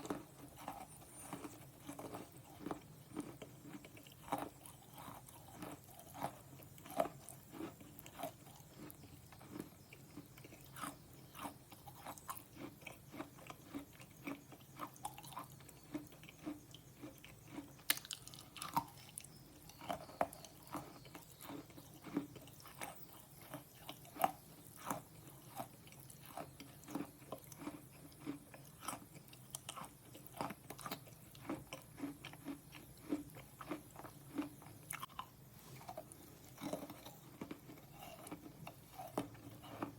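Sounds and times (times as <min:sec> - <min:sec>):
person chewing crunchy pencil: 0:00.0 - 0:39.9.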